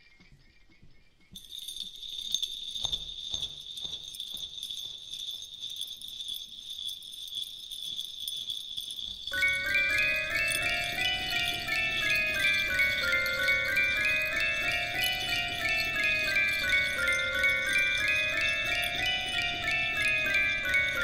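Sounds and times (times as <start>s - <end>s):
soft ticking: 1.3s - 21.0s
sleigh bells shaking over a beat: 1.4s - 21.0s.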